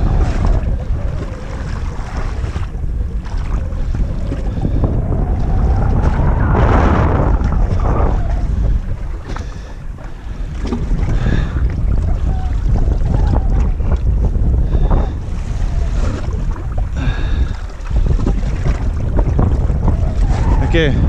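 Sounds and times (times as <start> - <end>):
water slapping a boat: 0.0 - 21.0
wind buffeting microphone: 0.0 - 21.0.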